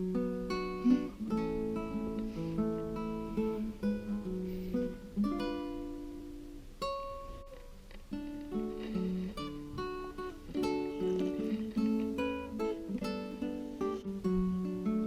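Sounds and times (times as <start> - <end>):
gentle acoustic guitar plucking: 0.0 - 15.0.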